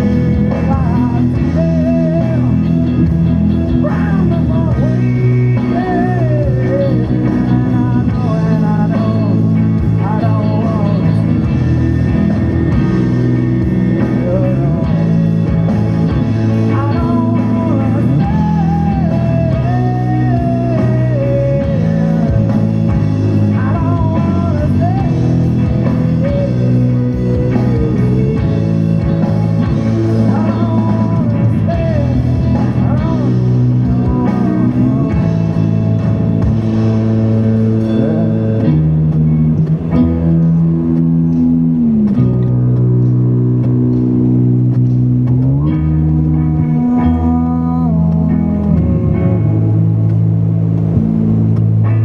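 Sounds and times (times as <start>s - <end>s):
rock music with guitar: 0.0s - 52.0s.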